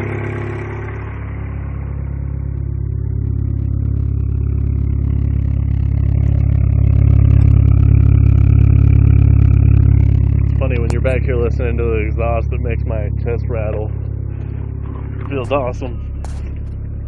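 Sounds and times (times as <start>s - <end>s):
car exhaust idling: 0.0s - 17.0s.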